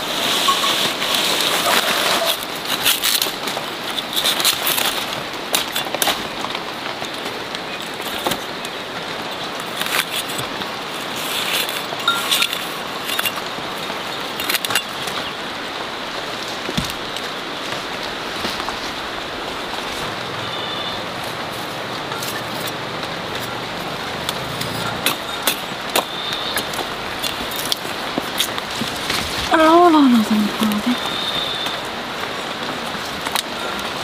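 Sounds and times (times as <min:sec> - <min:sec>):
crackling and rustling of roots: 0:00.0 - 0:34.0
steady background hiss: 0:00.0 - 0:34.0.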